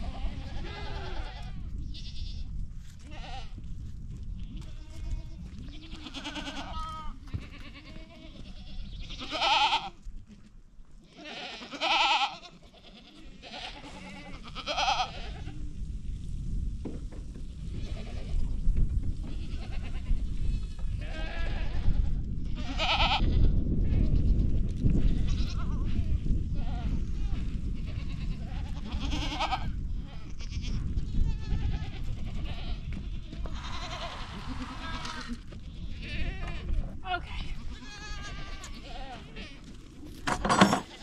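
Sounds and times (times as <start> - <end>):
goats bleating: 0.0 - 2.4, 4.4 - 15.6, 19.3 - 24.4, 25.0 - 39.8.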